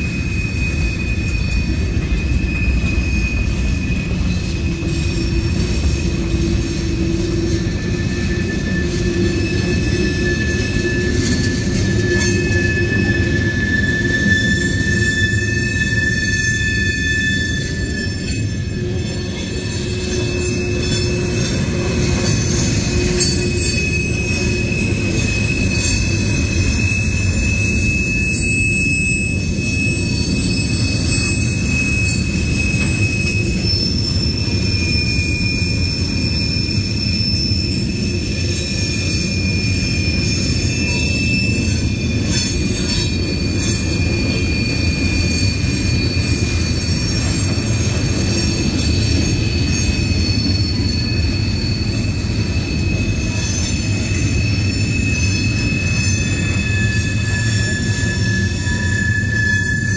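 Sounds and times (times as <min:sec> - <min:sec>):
high-pitched wheel squeal: 0:00.0 - 0:59.9
train wheels rumbling on rail: 0:00.0 - 0:59.9.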